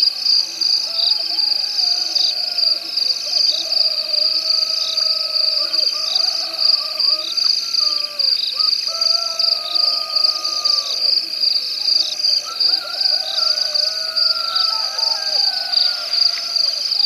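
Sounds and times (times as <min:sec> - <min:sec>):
insects trilling high-pitched: 0:00.0 - 0:17.0
low wavering insect calls: 0:00.0 - 0:17.0.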